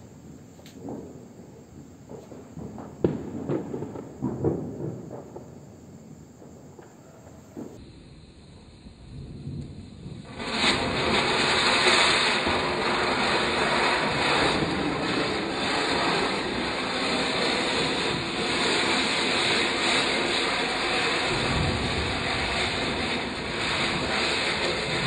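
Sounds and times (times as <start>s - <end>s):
ground firework hissing: 0.0s - 25.0s.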